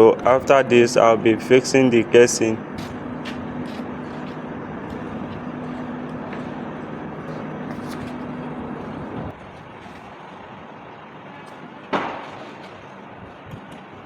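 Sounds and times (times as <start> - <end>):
engine-like rumble with hum: 0.0 - 14.0.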